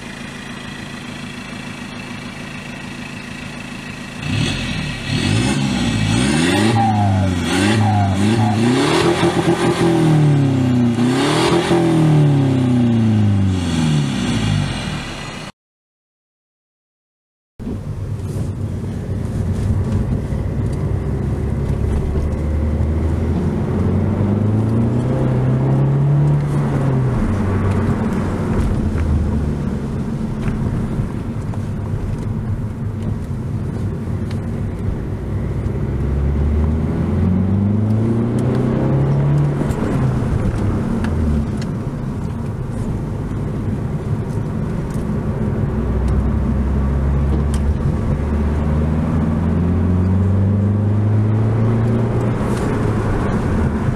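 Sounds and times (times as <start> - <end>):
car engine accelerating: 0.0 - 15.5, 17.7 - 53.9
road noise: 0.0 - 15.5, 17.6 - 53.9.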